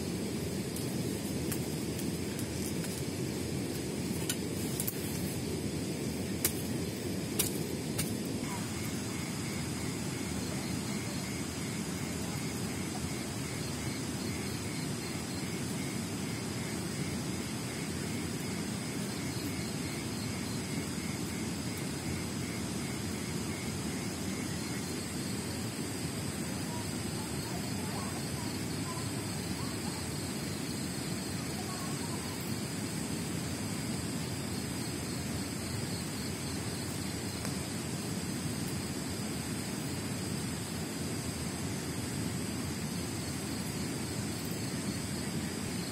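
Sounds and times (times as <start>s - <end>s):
crickets chirping: 0.0s - 45.9s.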